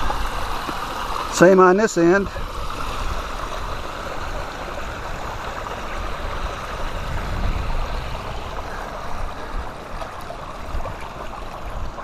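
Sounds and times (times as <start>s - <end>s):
water running through dam: 0.0s - 12.0s
wind rumbling on microphone: 2.3s - 12.0s.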